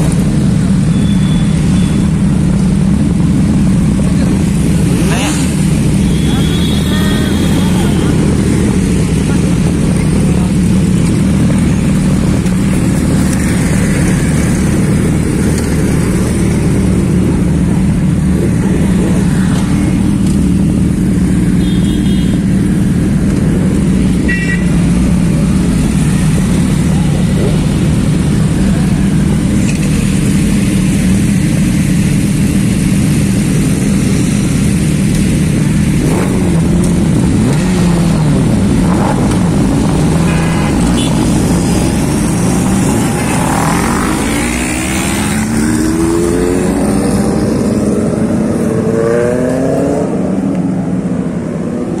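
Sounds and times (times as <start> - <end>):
motorcycle engines revving: 0.0 - 52.0
motorcycle engines rumbling: 0.0 - 52.0.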